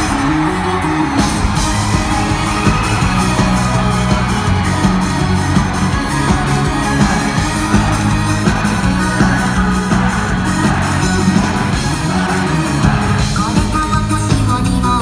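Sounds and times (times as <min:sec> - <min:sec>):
live band playing pop-rock: 0:00.0 - 0:15.0.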